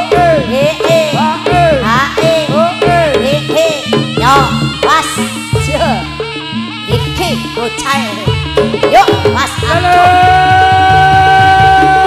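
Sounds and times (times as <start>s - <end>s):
drumming: 0.0s - 12.0s
pitched percussion with bending tones: 0.0s - 12.0s.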